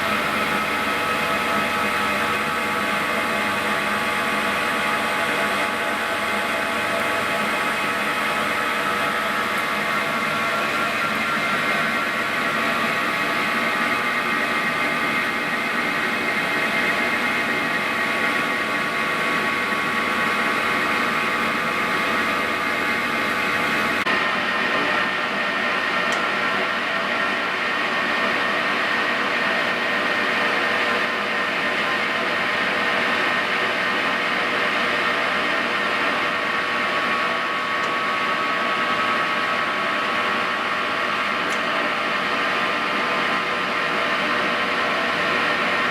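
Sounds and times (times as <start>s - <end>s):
lathe gear whine: 0.0s - 45.9s.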